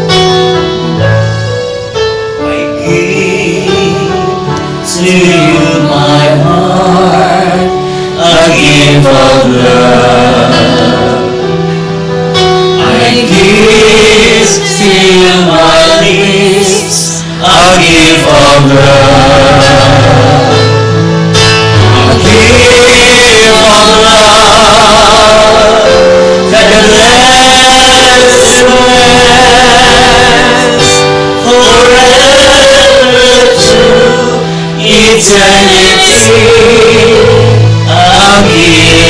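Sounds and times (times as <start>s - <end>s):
worship song with sung vocals: 2.4s - 39.0s.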